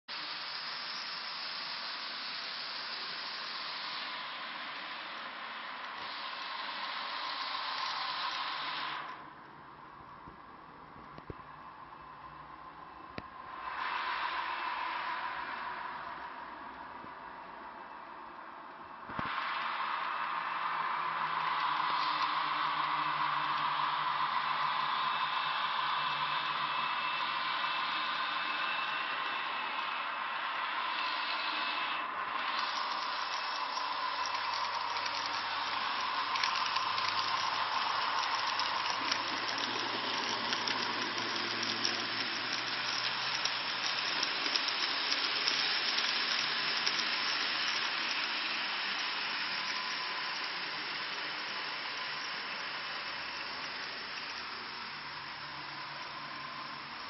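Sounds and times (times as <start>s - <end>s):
model train whirring: 0.0s - 57.0s.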